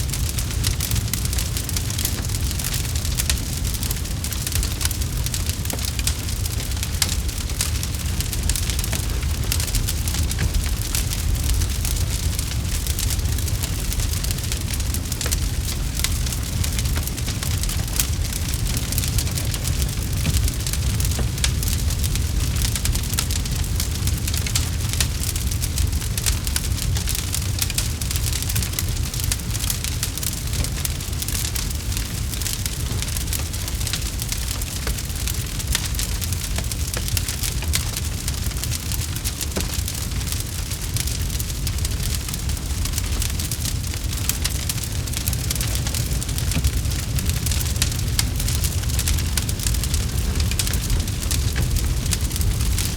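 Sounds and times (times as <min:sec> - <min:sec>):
campfire crackling: 0:00.0 - 0:52.9.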